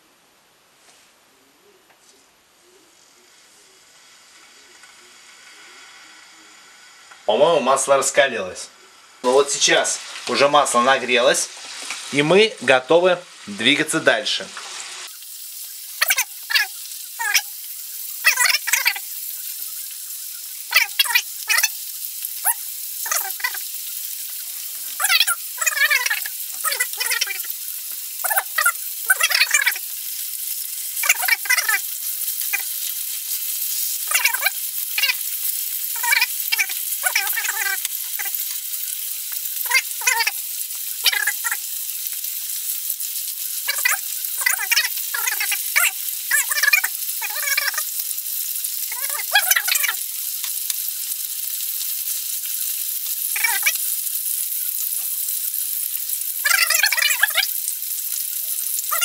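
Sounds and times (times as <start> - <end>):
ribs sizzling in hot oil: 2.6 - 59.0.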